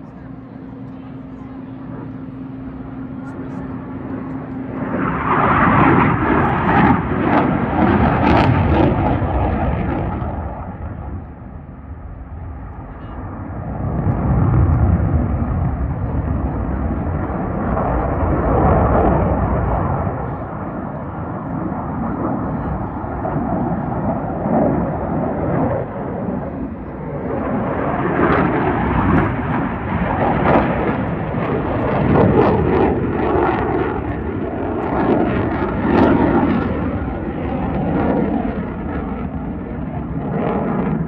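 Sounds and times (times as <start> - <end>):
fighter jet passing: 1.4 - 41.0.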